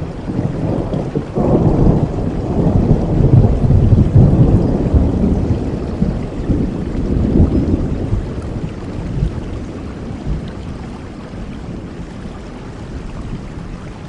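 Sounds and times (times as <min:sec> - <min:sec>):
thunder rumbling: 0:00.0 - 0:12.4
steady rain: 0:00.0 - 0:14.0.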